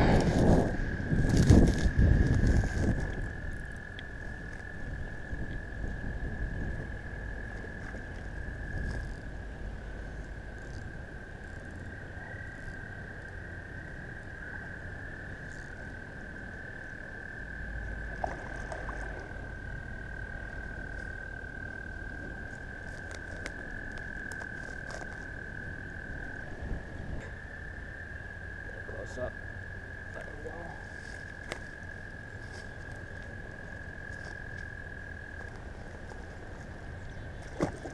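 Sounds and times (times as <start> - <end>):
toads trilling: 0.0 - 37.9.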